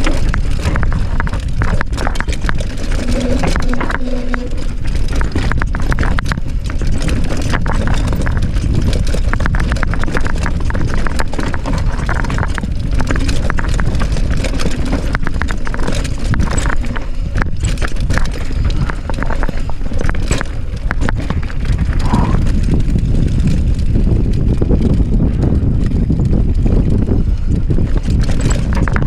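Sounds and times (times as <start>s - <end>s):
bike clattering over rocky ground: 0.0s - 29.0s
steady low rumble: 0.0s - 29.0s.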